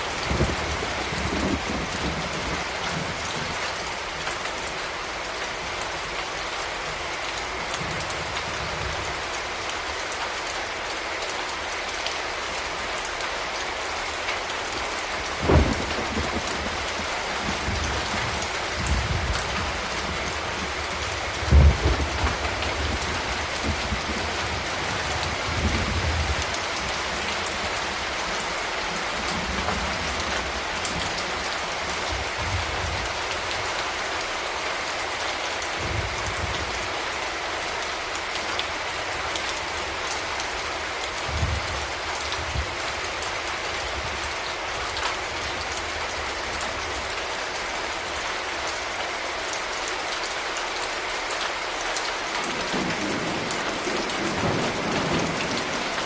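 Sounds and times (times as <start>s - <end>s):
rain pattering on hard surfaces: 0.0s - 56.0s.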